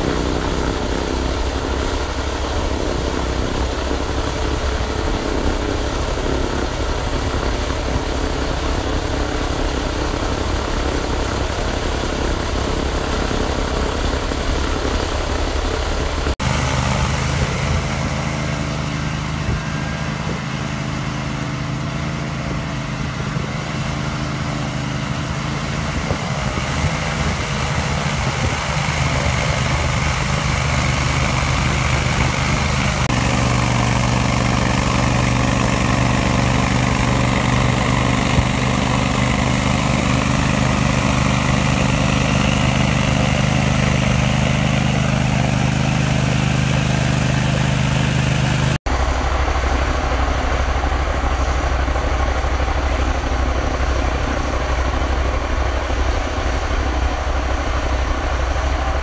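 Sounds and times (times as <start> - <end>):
small tractor engine running: 0.0 - 59.0.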